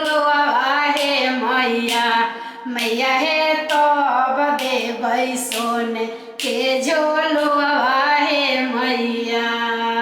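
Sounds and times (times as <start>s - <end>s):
woman singing unaccompanied: 0.0s - 10.0s.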